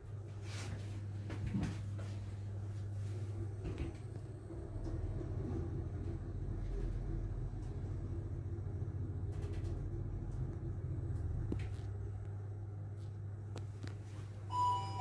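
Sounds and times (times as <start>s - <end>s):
lift rumble and hum: 0.0s - 15.0s.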